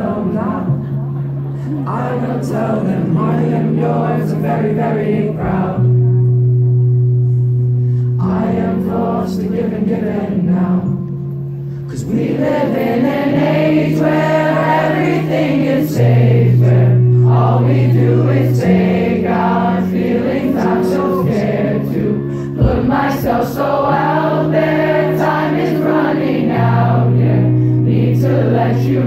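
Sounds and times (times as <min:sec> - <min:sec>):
lead singer and voices singing: 0:00.0 - 0:06.4, 0:08.1 - 0:29.0
live pop song: 0:00.0 - 0:06.9, 0:07.8 - 0:29.0.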